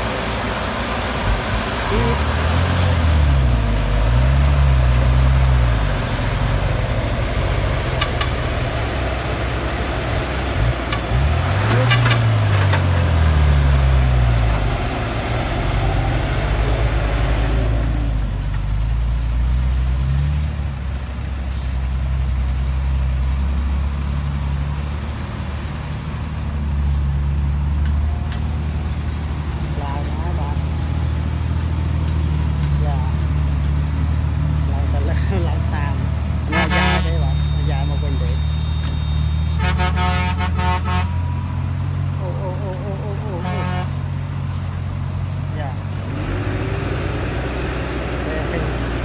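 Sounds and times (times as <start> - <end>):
excavator diesel engine under load: 0.0 - 49.0.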